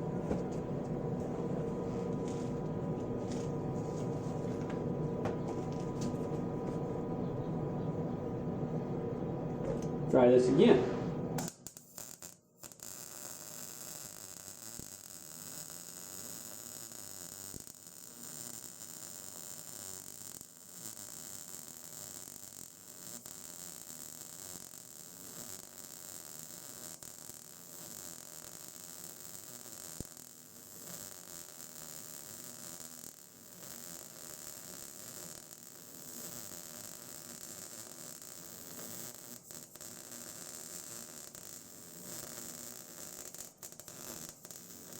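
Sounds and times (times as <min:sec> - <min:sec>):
welding arc crackling sizzle: 0:00.0 - 0:07.1, 0:09.5 - 0:44.9.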